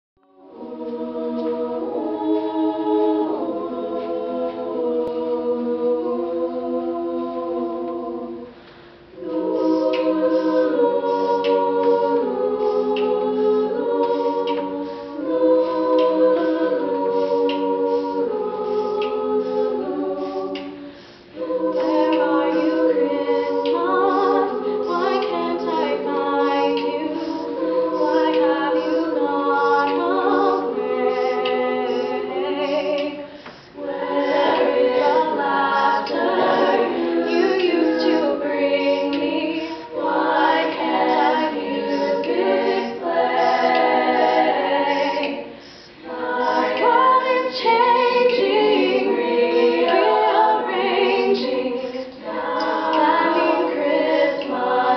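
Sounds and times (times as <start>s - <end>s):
women's a cappella group singing: 0.2s - 54.9s.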